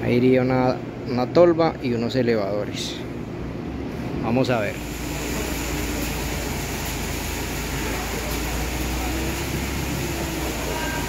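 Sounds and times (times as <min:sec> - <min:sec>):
machinery rumble and hiss: 0:00.0 - 0:11.0.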